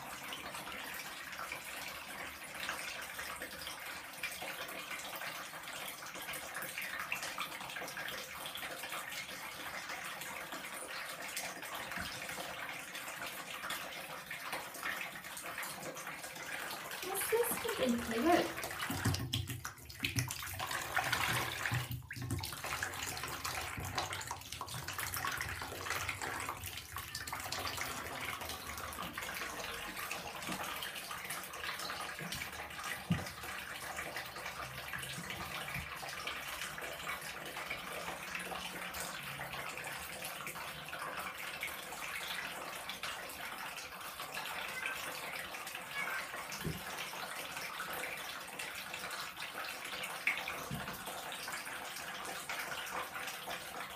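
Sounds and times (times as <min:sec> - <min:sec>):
tap water splashing into bathtub: 0:00.0 - 0:53.9.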